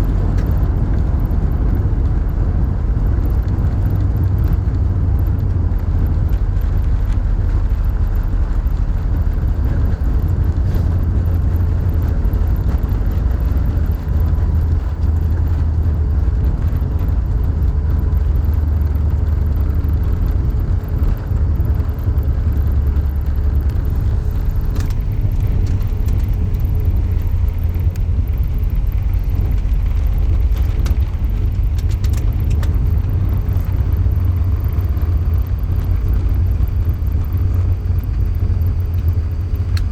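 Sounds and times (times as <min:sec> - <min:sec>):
airliner cabin rumble: 0:00.0 - 0:39.9
faint clicks and rattles: 0:00.0 - 0:39.9.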